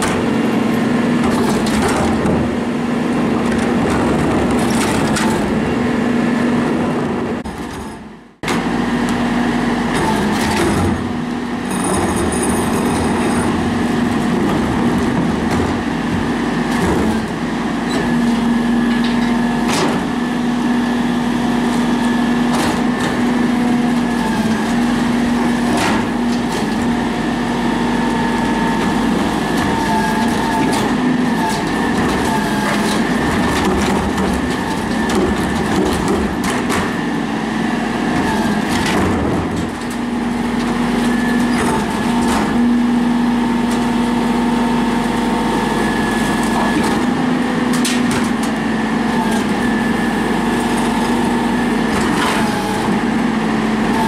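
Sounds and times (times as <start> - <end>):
garbage truck engine humming: 0.0 - 54.0.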